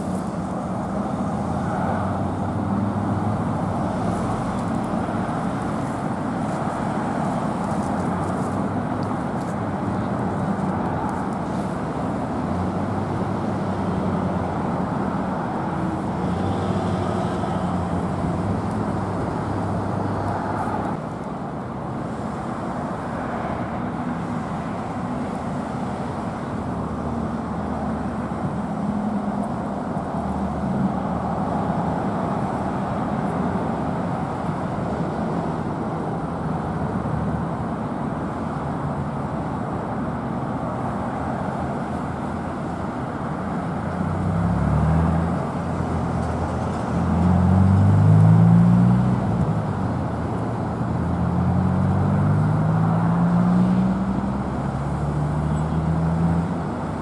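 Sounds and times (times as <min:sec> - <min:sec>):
low engine hum: 0:00.0 - 0:57.0
vehicles passing on road: 0:00.0 - 0:57.0.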